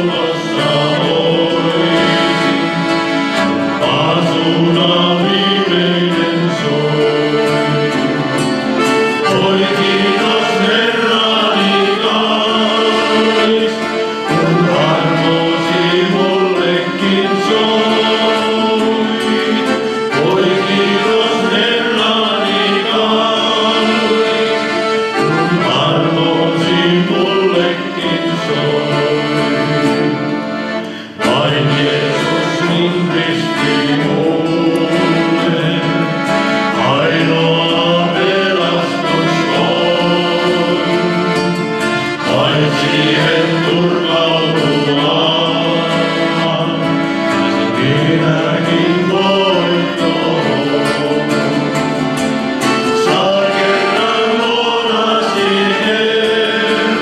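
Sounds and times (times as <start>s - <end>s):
men's vocal group singing gospel: 0.0s - 2.7s, 3.7s - 8.4s, 9.2s - 41.6s, 42.2s - 52.0s, 52.8s - 57.0s
accordion: 0.0s - 57.0s
acoustic guitar: 0.0s - 57.0s.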